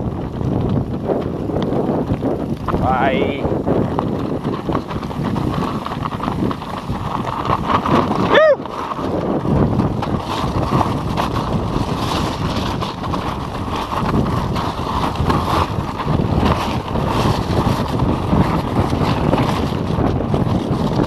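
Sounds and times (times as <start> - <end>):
bike rattling: 0.0 - 21.0
wind buffeting microphone: 0.0 - 21.0
tyres crunching over gravel: 0.1 - 21.0.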